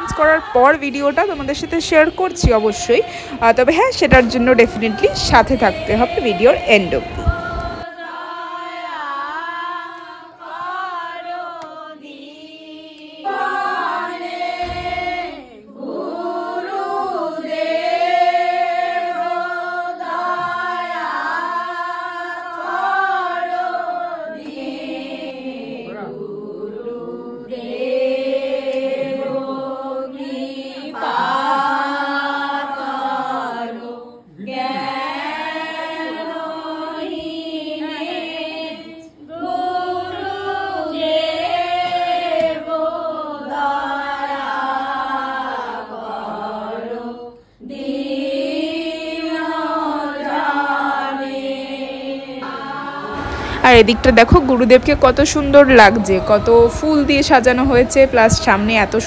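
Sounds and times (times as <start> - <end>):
voices chanting a melody: 0.0 - 55.2.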